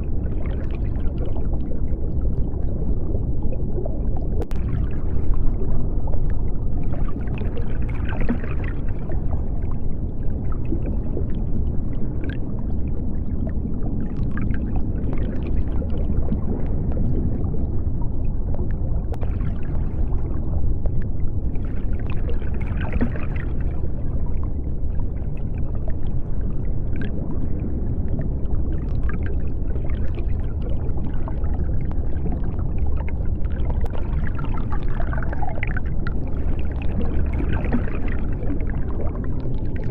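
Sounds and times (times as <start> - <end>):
deep underwater rumble: 0.0 - 39.9
underwater bubbling: 0.0 - 39.9.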